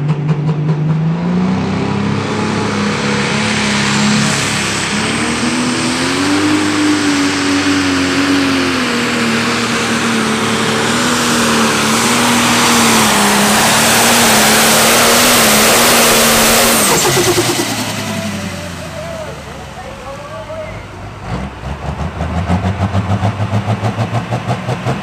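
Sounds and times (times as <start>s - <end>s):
tractor diesel engine revving: 0.0s - 25.0s.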